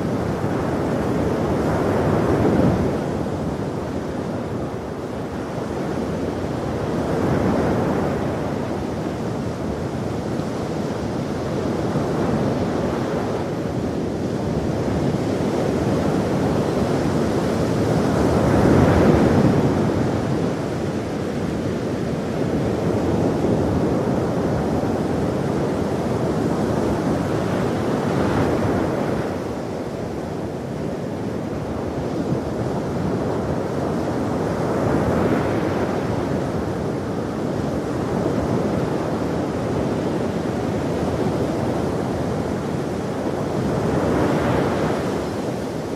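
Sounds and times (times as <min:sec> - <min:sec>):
ocean waves breaking on shore: 0:00.0 - 0:45.9.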